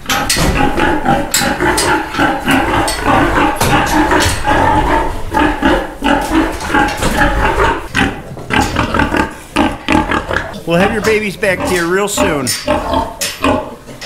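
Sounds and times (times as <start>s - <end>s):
pigs squealing and grunting: 0.0s - 14.0s.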